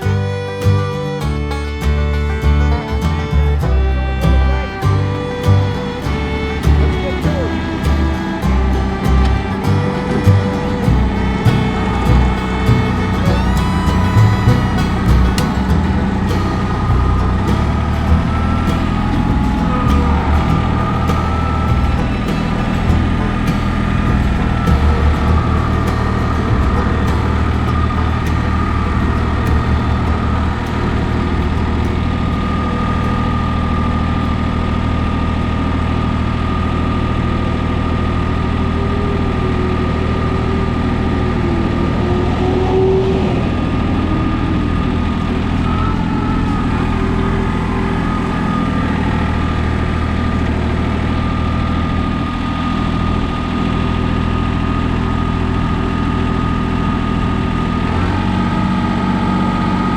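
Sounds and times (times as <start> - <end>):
tractor diesel engine running: 0.0 - 59.9
wavering whine: 0.0 - 59.9.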